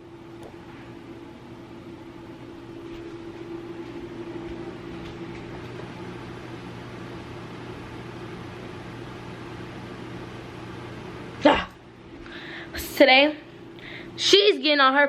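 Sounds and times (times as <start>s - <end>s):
machine hum: 0.0s - 14.8s.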